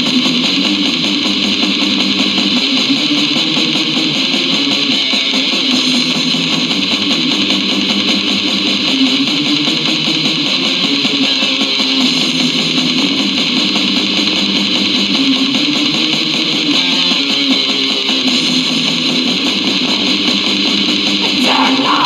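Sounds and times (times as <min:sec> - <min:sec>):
distorted electric guitars: 0:00.0 - 0:22.0.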